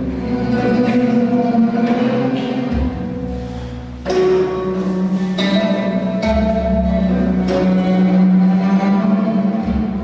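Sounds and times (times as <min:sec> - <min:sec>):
music with held notes: 0:00.0 - 0:10.0
plucked-string music: 0:00.0 - 0:10.0.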